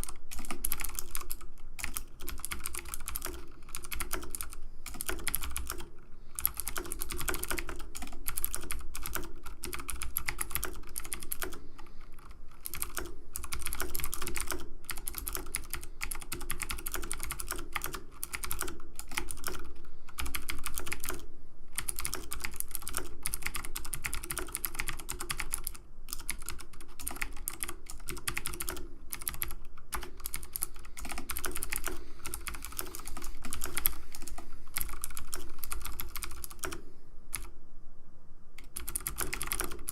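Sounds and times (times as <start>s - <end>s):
typing on computer keyboard: 0.0s - 37.5s, 38.6s - 39.9s.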